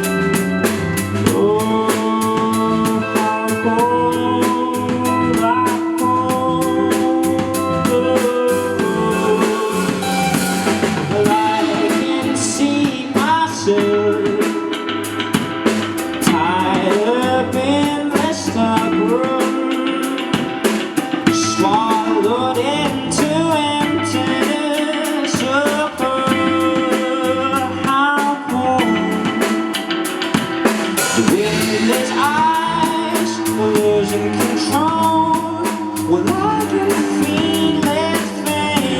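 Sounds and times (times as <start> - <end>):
drum kit beat: 0.0 - 38.9
guitar: 0.0 - 38.9
melodic lead line: 0.0 - 38.9.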